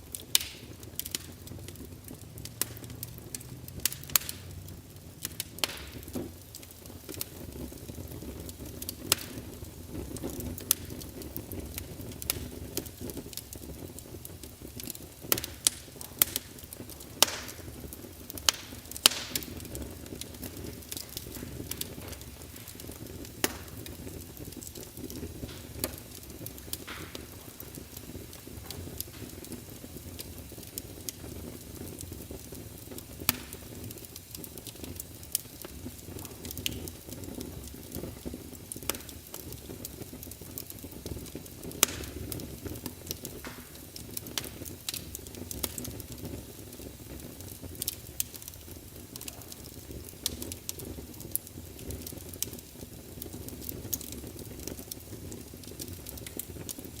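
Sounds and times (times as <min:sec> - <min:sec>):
fire flames rumbling: 0:00.0 - 0:57.0
logs crackling and popping: 0:00.0 - 0:57.0.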